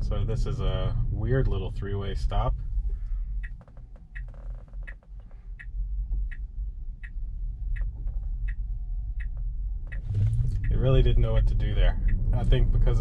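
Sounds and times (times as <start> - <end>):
low cabin rumble: 0.0 - 13.0
turn signal ticking: 0.0 - 13.0.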